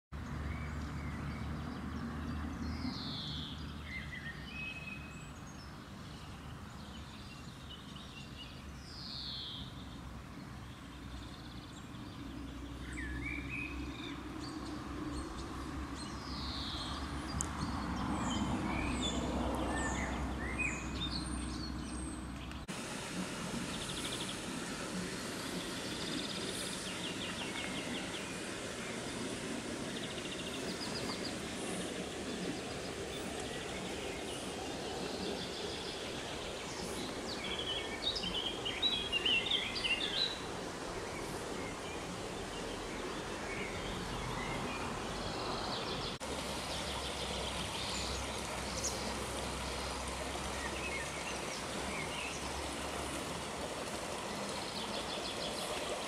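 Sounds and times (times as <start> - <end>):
songbirds chirping and trilling: 0.2 - 56.0.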